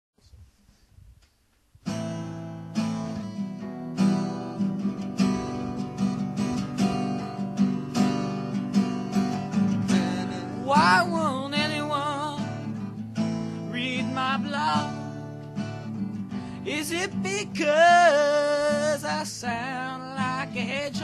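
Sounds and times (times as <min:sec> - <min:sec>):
acoustic guitar strumming: 0:01.8 - 0:21.0.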